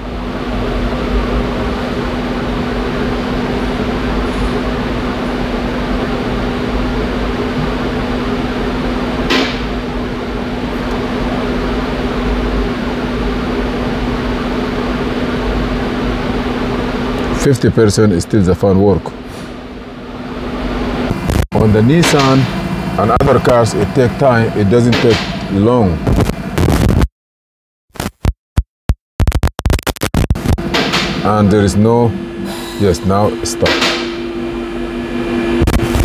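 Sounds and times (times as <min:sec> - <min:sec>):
cooling fan humming: 0:00.0 - 0:26.6, 0:30.4 - 0:36.0.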